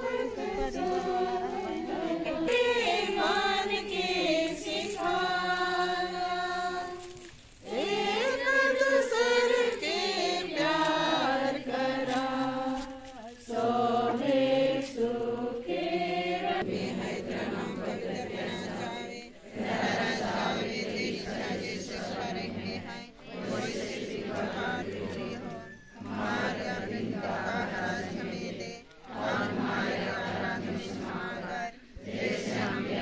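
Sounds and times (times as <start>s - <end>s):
group singing a hymn: 0.0s - 33.0s.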